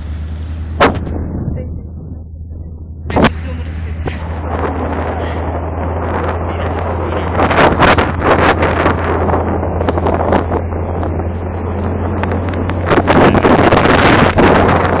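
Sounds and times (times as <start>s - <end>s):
boat engine humming: 0.0s - 15.0s
wind buffeting microphone: 0.6s - 15.0s.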